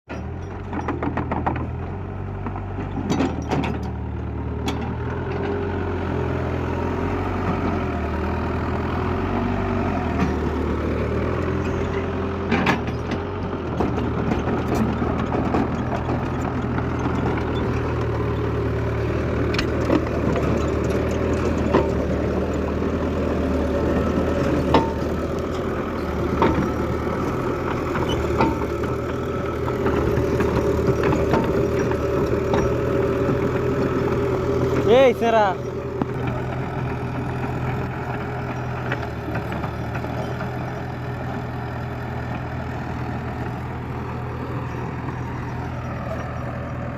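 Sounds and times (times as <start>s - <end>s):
heavy diesel engine running: 0.1s - 46.9s.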